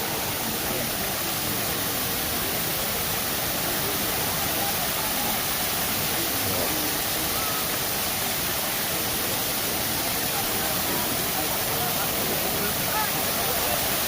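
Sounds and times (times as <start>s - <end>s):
waterfall rushing over rock: 0.0s - 14.0s.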